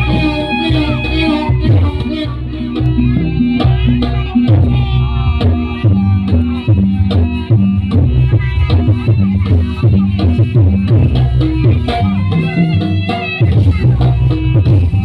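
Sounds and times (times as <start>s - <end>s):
hand drums beating: 0.0s - 15.0s
low melody line: 0.0s - 15.0s
pitched percussion: 0.0s - 15.0s.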